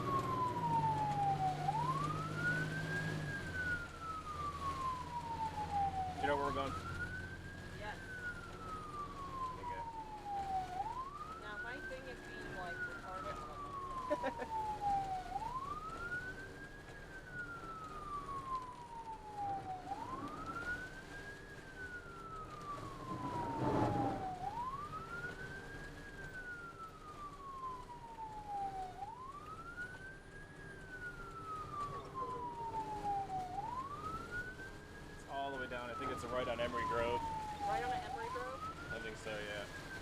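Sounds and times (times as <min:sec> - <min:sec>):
ambulance siren wailing: 0:00.0 - 0:40.0.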